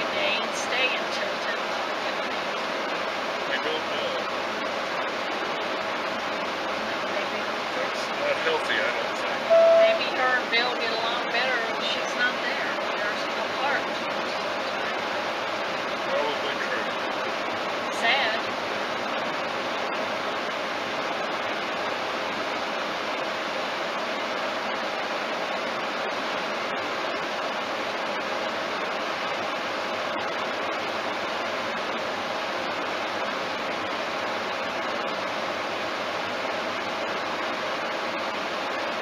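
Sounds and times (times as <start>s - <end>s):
road and tyre noise: 0.0s - 39.0s.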